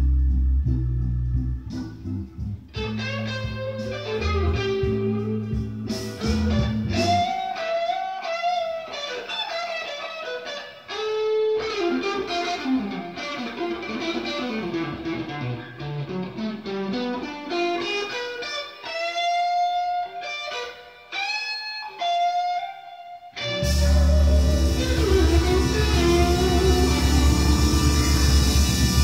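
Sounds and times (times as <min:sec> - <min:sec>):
electric blues guitar solo: 0:01.6 - 0:29.0.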